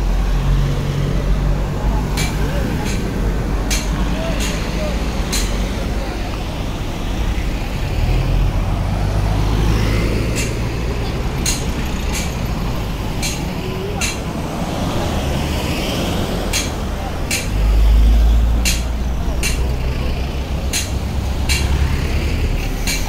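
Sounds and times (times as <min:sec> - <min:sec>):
cars driving slowly past: 0:00.0 - 0:23.0.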